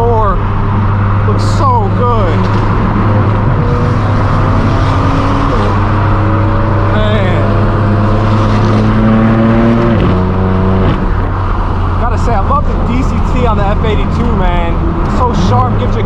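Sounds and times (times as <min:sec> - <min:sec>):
car engine under load: 0:00.0 - 0:16.0
gear upshifts: 0:00.0 - 0:16.0.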